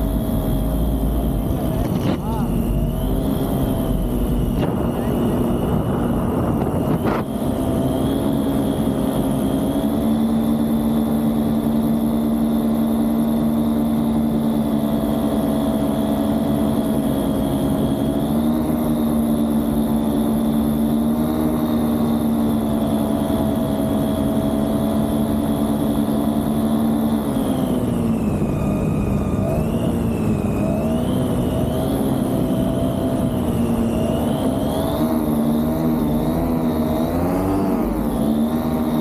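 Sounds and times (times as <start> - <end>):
paramotor engine and propeller: 0.0 - 39.0.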